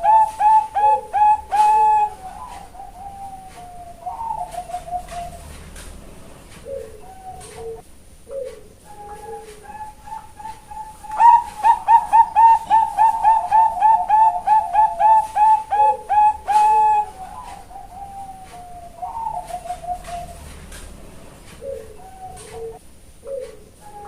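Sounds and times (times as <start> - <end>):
distant doves cooing: 0.0 - 24.0
dove cooing: 0.0 - 24.0.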